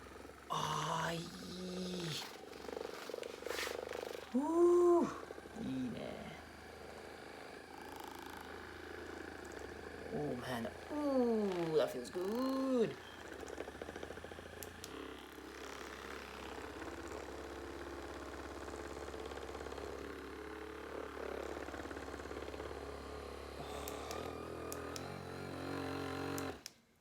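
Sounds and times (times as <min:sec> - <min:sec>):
massage gun motor pulsing: 0:00.0 - 0:27.0.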